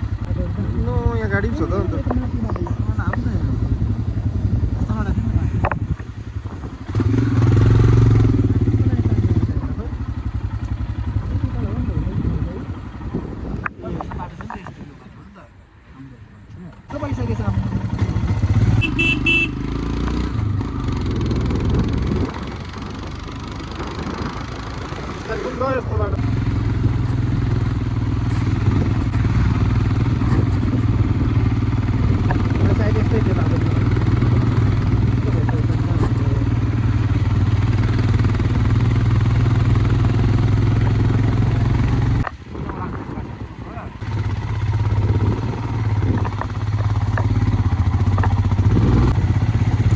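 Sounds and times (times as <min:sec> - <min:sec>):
motorcycle engine running: 0:00.0 - 0:14.6, 0:16.9 - 0:49.9.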